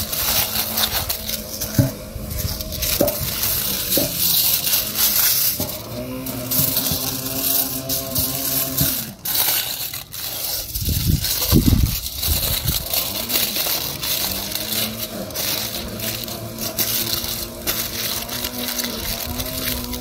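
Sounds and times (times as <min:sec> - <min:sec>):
foil crinkling: 0:00.0 - 0:20.0.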